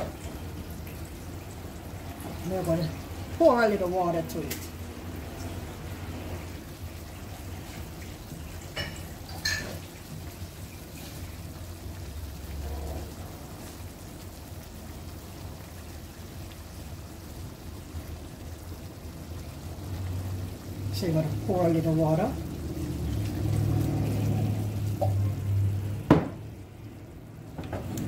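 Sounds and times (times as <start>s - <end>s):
stew simmering: 0.0s - 28.0s.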